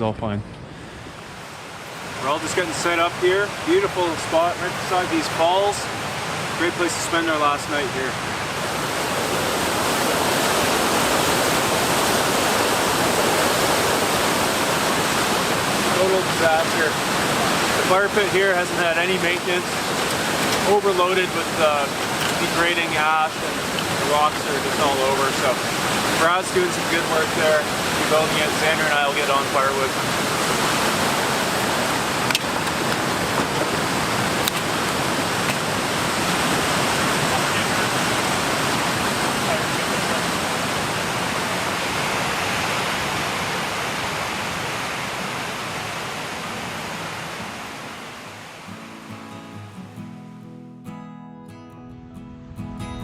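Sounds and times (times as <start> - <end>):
waterfall rushing: 0.8 - 49.9.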